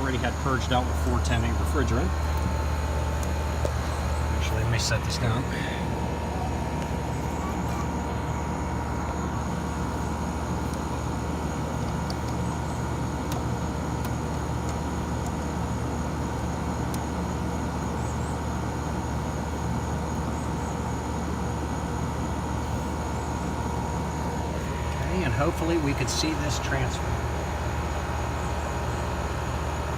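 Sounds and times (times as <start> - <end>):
air conditioner humming: 0.0 - 29.9
faint steady whine: 0.0 - 29.9.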